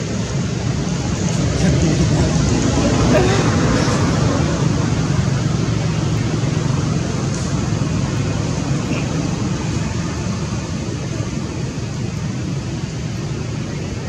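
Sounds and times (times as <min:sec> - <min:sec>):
steady low rumble with hiss: 0:00.0 - 0:14.0.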